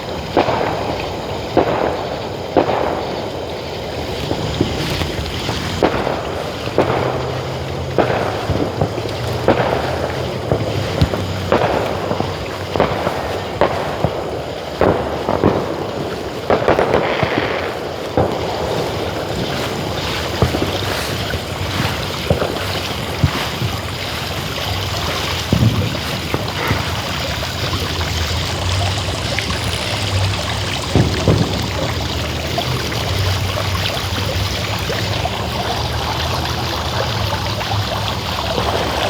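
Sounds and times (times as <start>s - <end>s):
background hiss: 0.0s - 39.0s
fireworks popping and banging: 0.0s - 39.0s.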